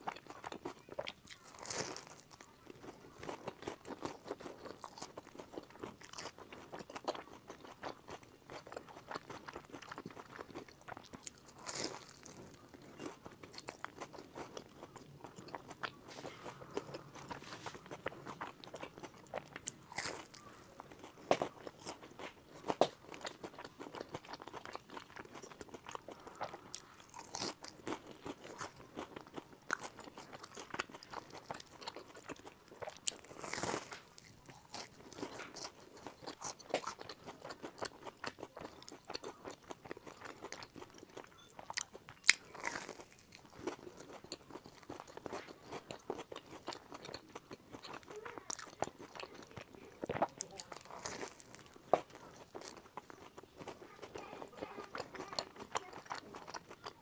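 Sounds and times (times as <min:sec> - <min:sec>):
crunching crust while chewing: 0:00.0 - 0:57.0
wet chewing: 0:00.0 - 0:57.0.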